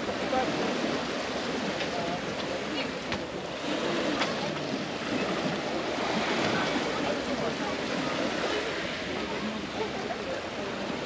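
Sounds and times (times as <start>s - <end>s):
faint voices: 0.0s - 11.0s
sea waves washing ashore: 0.0s - 11.0s.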